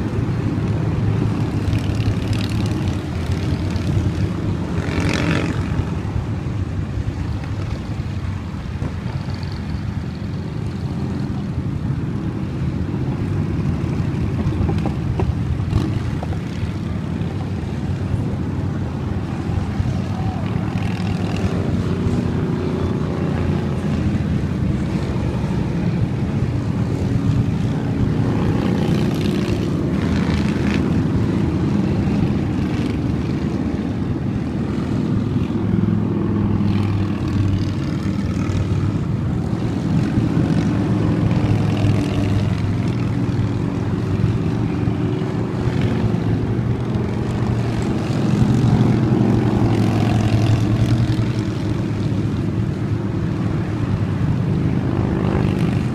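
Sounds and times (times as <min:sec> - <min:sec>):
motorcycles passing: 0:00.0 - 0:55.9.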